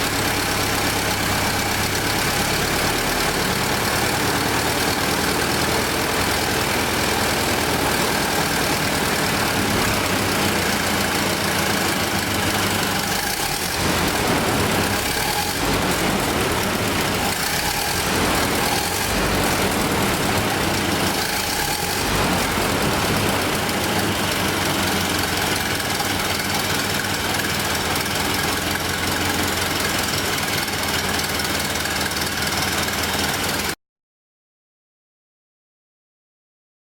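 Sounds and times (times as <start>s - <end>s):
car engine running steadily: 0.0s - 33.7s.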